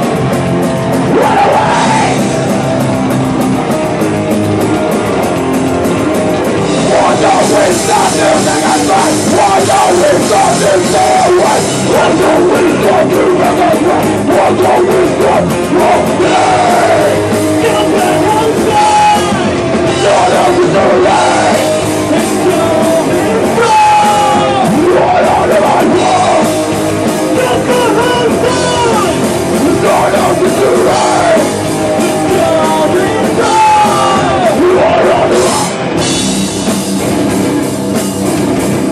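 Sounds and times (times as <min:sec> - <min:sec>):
hardcore punk band playing live: 0:00.0 - 0:38.9.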